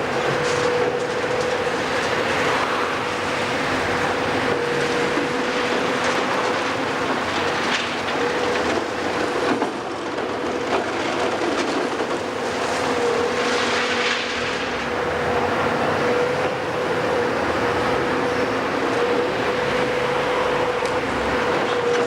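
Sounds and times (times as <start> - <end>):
demolition machine engine drone: 0.0 - 22.0.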